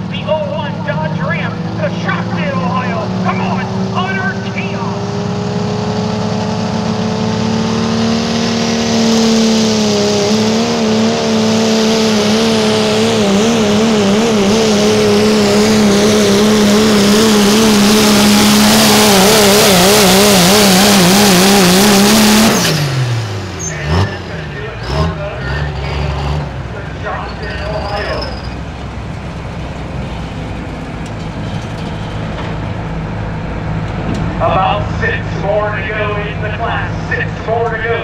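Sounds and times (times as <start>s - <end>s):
truck engine at high revs: 0.0s - 38.0s.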